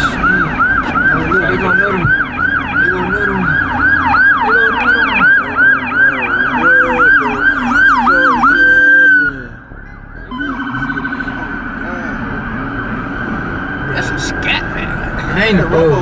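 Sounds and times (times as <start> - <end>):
lower wailing siren: 0.0 - 16.0
police siren yelping: 0.0 - 16.0.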